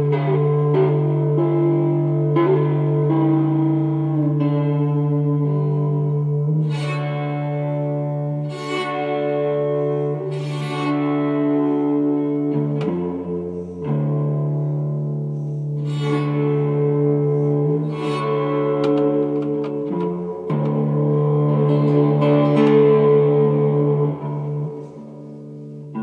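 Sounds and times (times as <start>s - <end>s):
bowed electric guitar drone: 0.0s - 26.0s.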